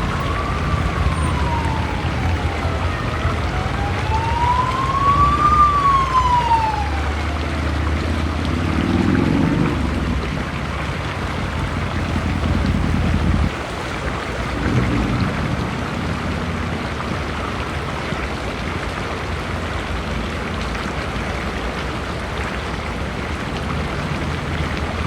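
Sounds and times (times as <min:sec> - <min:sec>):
emergency siren wailing: 0:00.0 - 0:18.2, 0:21.0 - 0:25.0.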